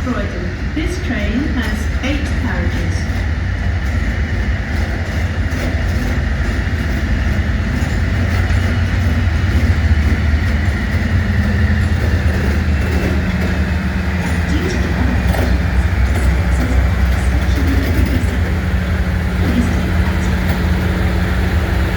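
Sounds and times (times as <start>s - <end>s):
train passing on rails: 0.0s - 21.9s.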